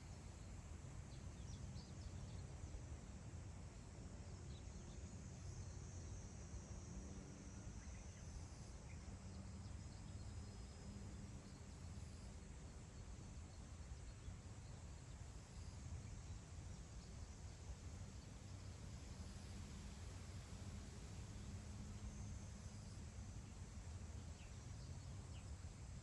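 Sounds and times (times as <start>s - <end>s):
faint wind: 0.0s - 26.0s.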